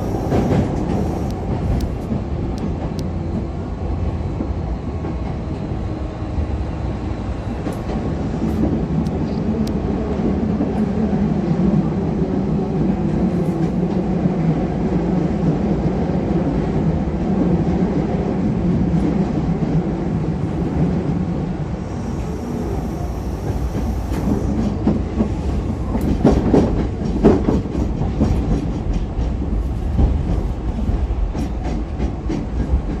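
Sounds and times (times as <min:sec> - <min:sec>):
electric train rumbling: 0:00.0 - 0:33.0.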